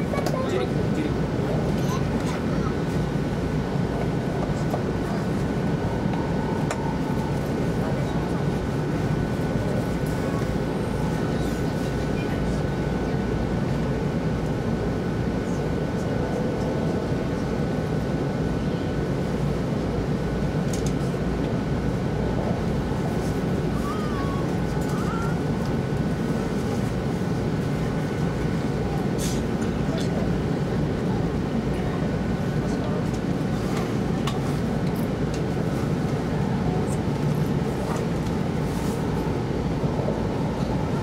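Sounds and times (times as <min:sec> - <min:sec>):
train running noise in cabin: 0:00.0 - 0:41.0.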